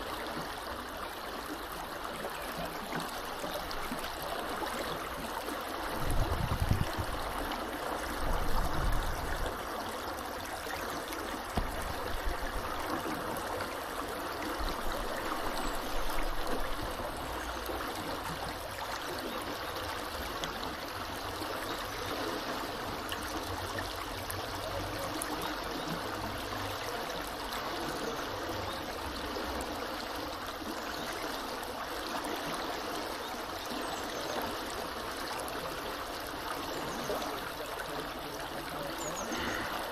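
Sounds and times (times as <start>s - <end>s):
river water rushing: 0.1s - 39.9s.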